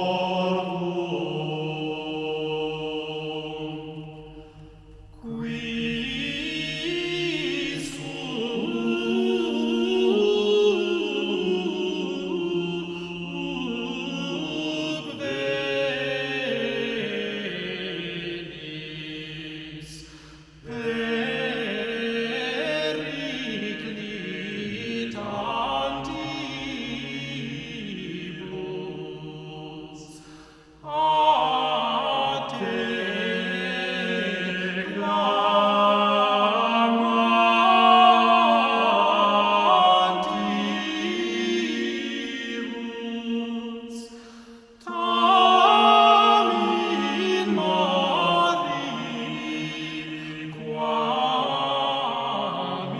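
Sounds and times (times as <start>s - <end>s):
choral chant over drone: 0.0s - 52.9s.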